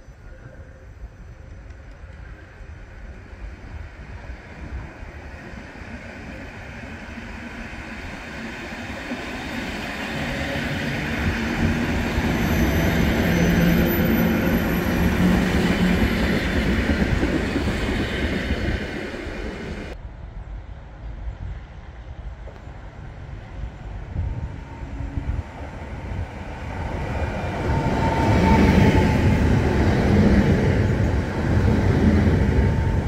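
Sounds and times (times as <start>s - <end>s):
train rail and wheel noise: 0.0s - 33.0s.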